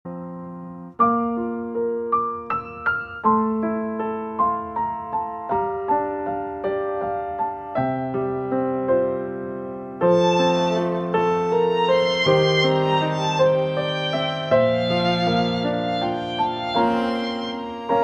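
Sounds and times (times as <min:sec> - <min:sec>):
gentle piano music: 0:00.1 - 0:18.0.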